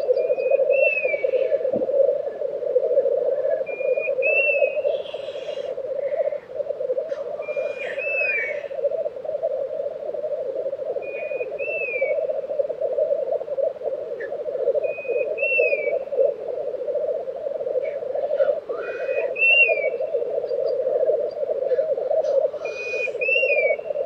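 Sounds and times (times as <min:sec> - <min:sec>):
bubbling chorus of grouse: 0:00.0 - 0:24.0.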